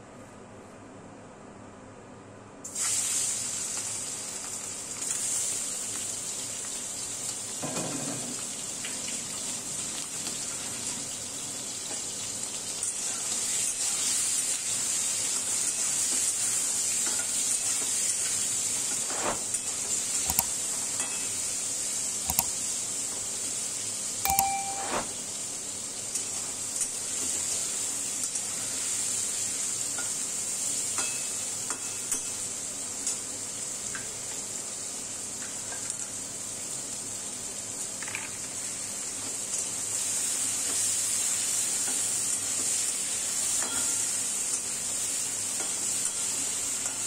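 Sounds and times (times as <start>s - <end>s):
prawns sizzling in hot oil: 2.6s - 47.0s.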